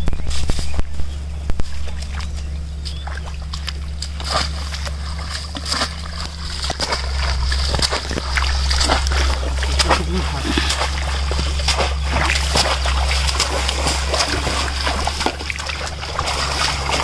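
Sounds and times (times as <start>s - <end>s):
steady low rumble: 0.0s - 17.0s
water splashing and sloshing: 0.3s - 17.0s.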